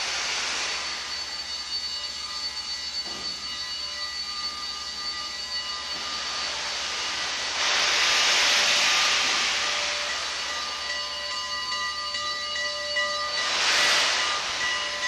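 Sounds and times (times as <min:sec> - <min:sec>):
rushing steam hiss: 0:00.0 - 0:15.0
steady high tones: 0:00.0 - 0:15.0.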